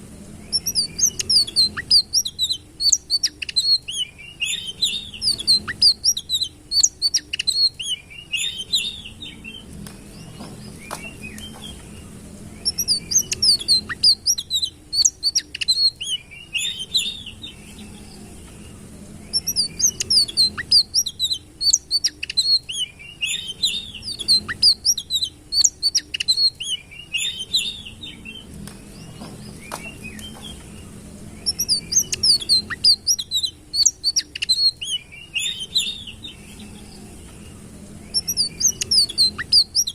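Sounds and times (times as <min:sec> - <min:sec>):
songbird twittering: 0:00.0 - 0:39.9.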